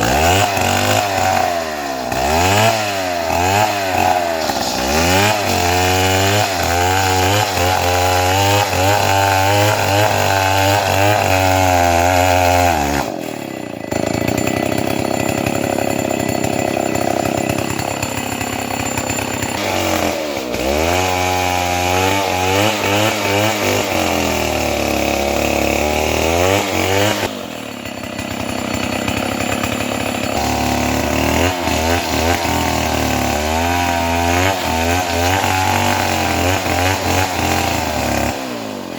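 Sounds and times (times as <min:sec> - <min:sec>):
chainsaw cutting timber: 0:00.0 - 0:38.9.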